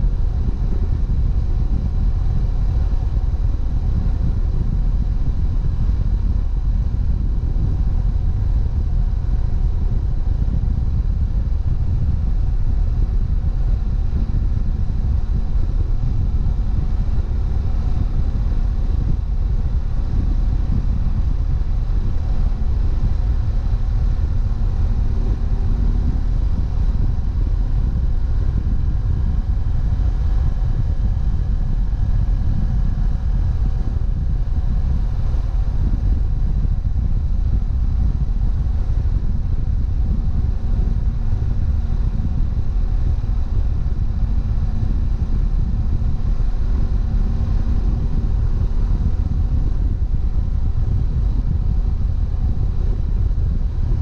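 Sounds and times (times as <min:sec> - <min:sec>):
motorcycle engine running: 0:00.0 - 0:54.0
wind rumble on microphone: 0:00.0 - 0:54.0.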